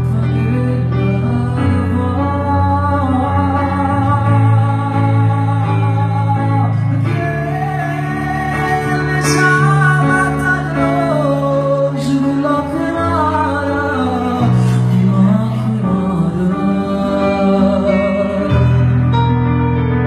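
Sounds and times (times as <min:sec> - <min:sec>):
man singing into a microphone: 0:00.0 - 0:19.5
electronic keyboard chords: 0:00.0 - 0:20.0.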